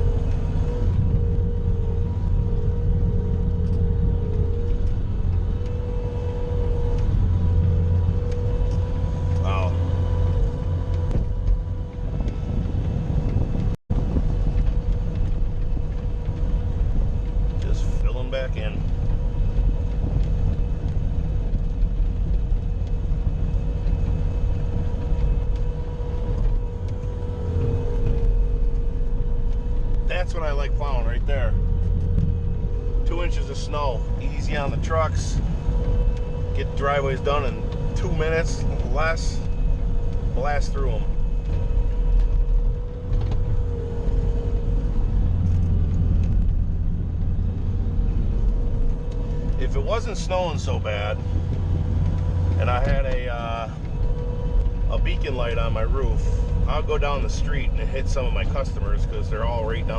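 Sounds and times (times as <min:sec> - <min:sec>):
diesel engine running under load: 0:00.0 - 0:59.9
steady mechanical whine: 0:00.0 - 0:59.9.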